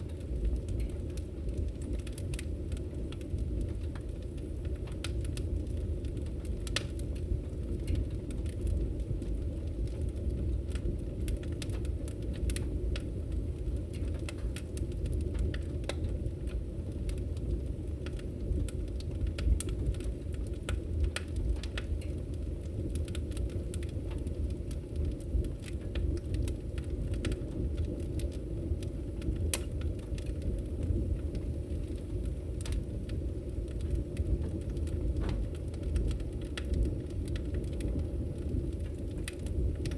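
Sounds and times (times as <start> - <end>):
fire crackles and pops: 0.0 - 39.9
flames rumbling: 0.0 - 39.9.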